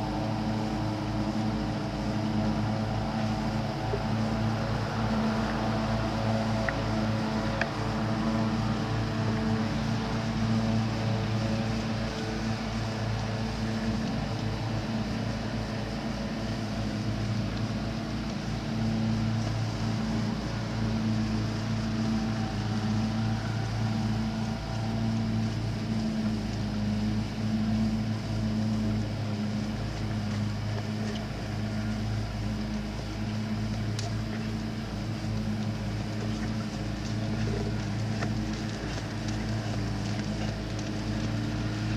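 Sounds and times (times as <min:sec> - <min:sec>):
faint wind noise: 0:00.0 - 0:41.9
low motor hum: 0:00.0 - 0:41.9.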